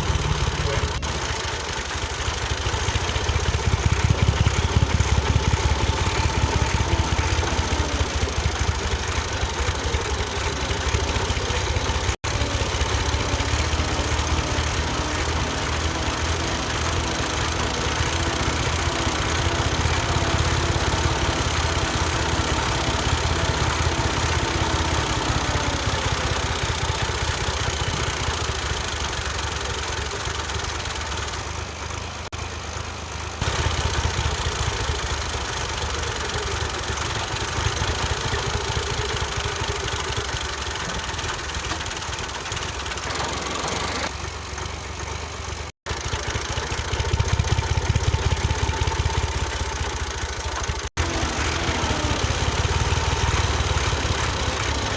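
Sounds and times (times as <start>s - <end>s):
small engine chugging: 0.0s - 54.9s.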